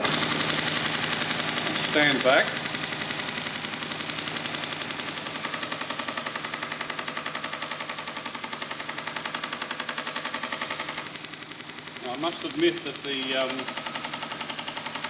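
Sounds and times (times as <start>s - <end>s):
belt joint ticking: 0.0s - 5.1s, 6.1s - 15.0s
belt sander motor hum: 0.0s - 15.0s.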